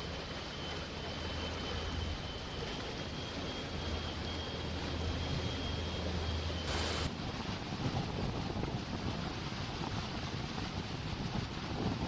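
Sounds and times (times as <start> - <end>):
storm wind: 0.0 - 12.0.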